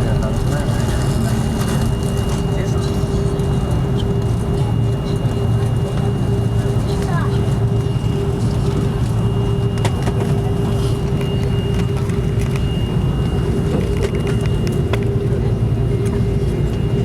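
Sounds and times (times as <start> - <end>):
aircraft cabin rumble: 0.0 - 17.0
constant hum: 0.0 - 17.0.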